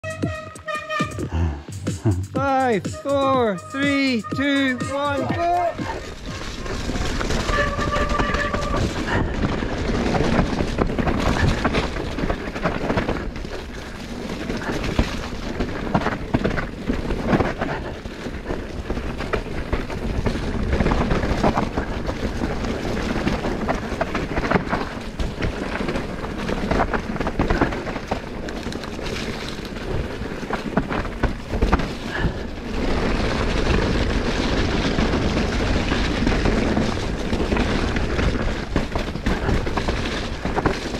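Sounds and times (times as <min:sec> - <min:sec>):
bike rattling and knocking: 0:00.0 - 0:01.8, 0:03.6 - 0:40.9
tyres rumbling on dirt trail: 0:00.0 - 0:40.9.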